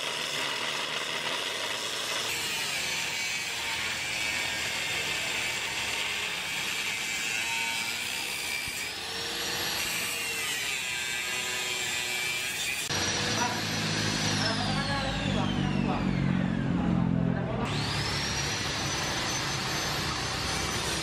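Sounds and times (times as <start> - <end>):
angle grinder cutting steel: 0.0 - 16.6, 17.6 - 21.0.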